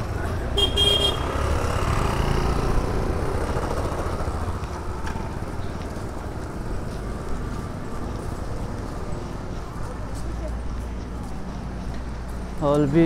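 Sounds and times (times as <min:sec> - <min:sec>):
road traffic engines rumbling: 0:00.0 - 0:13.0.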